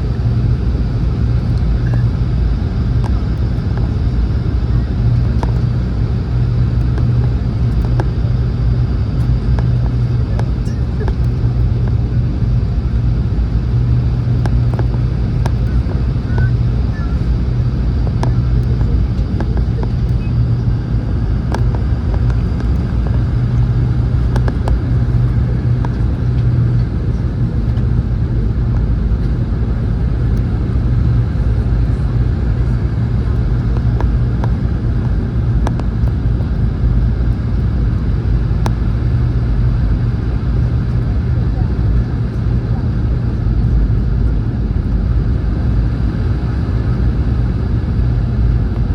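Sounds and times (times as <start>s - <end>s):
airliner cabin drone: 0.0s - 48.9s.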